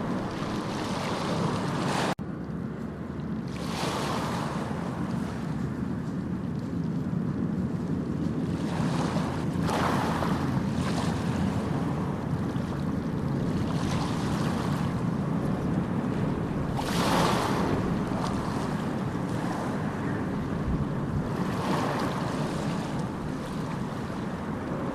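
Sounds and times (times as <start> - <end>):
sea waves washing in: 0.0 - 2.2, 3.2 - 24.9.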